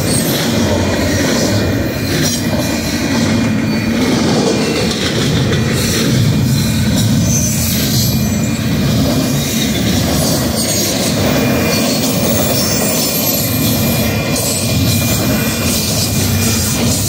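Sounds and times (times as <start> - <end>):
high wheel squeal: 0.0 - 17.0
steel wheels rumbling on rails: 0.0 - 17.0.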